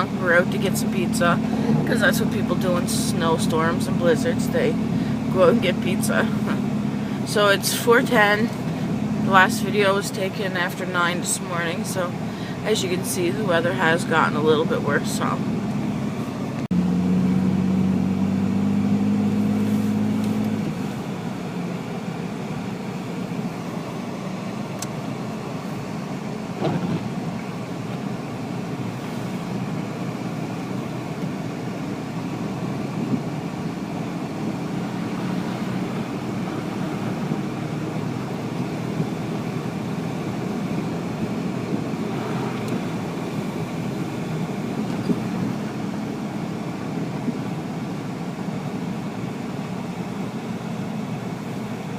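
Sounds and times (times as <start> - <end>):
car engine and road hum: 0.0 - 51.9.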